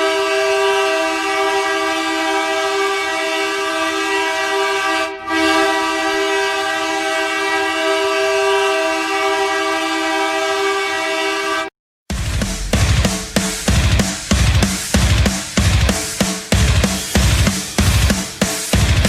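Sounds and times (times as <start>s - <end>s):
goal horn blast: 0.0s - 16.6s.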